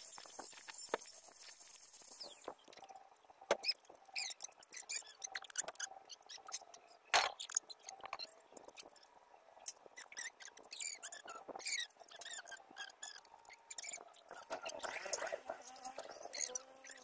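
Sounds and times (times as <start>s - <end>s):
high chirping squeaks: 0.0s - 6.8s, 7.4s - 17.0s.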